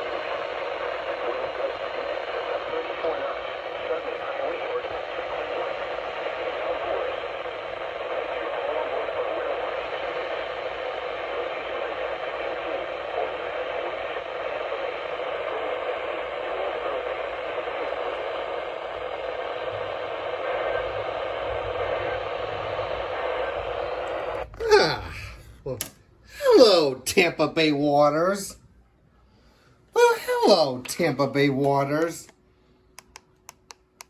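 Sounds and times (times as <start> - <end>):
radio static hiss: 0.0 - 28.6.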